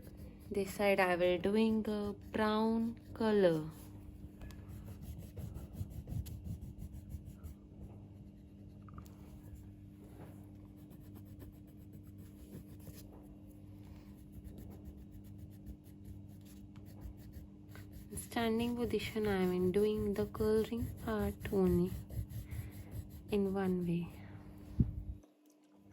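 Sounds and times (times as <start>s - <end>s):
colouring strokes scratching on paper: 0.0s - 9.7s, 10.6s - 13.2s, 14.0s - 24.2s
steady low hum: 0.0s - 25.9s.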